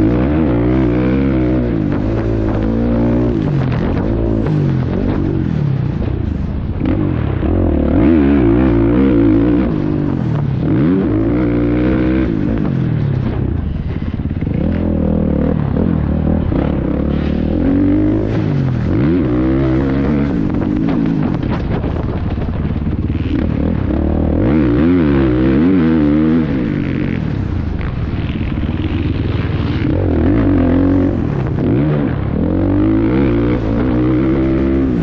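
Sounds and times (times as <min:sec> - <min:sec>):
motocross bike engine revving: 0:00.0 - 0:06.1, 0:06.7 - 0:35.0.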